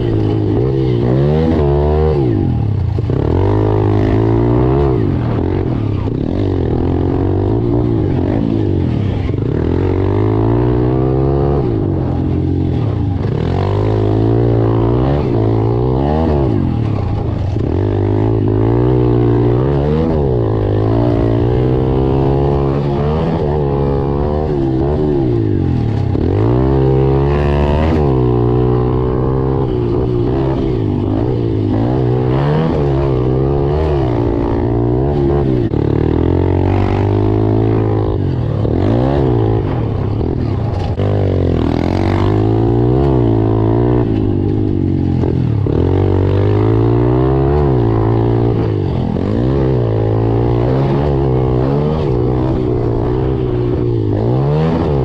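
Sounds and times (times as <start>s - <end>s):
pit bike engines revving: 0.0s - 55.0s.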